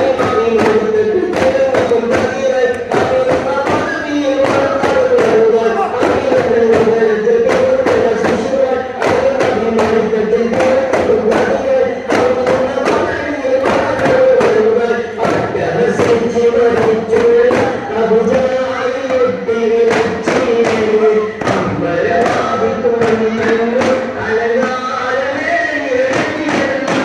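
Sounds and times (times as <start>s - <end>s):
frame drums beaten: 0.0s - 25.0s, 26.0s - 27.0s
men chanting a devotional song: 0.0s - 27.0s.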